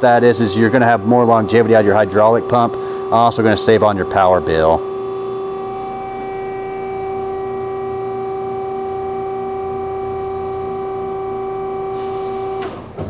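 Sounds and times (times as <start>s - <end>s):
hydraulic pump motor humming: 0.0s - 13.0s.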